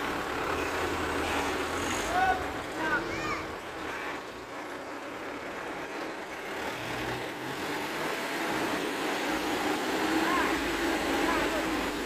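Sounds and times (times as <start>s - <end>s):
dump truck engine revving: 0.0s - 12.0s.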